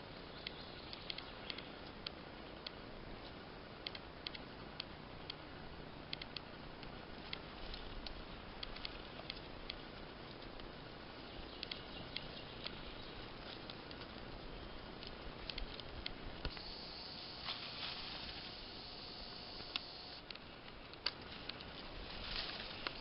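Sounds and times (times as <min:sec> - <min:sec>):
forest background hush: 0:00.0 - 0:23.0
light ticks and rustles: 0:00.4 - 0:16.7, 0:19.6 - 0:23.0.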